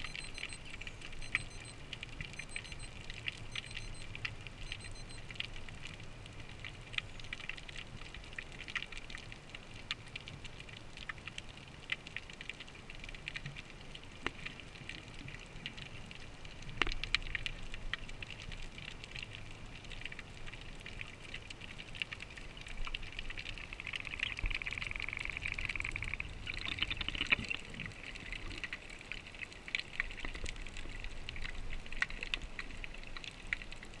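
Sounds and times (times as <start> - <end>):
sharp clicks and crackles: 0.0 - 34.0.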